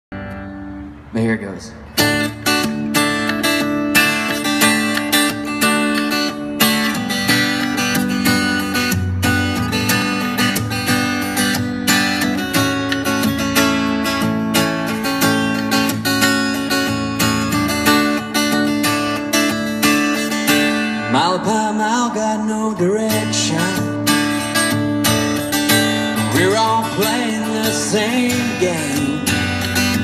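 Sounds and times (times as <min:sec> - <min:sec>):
acoustic guitar strumming: 0:00.1 - 0:01.2, 0:01.8 - 0:30.0.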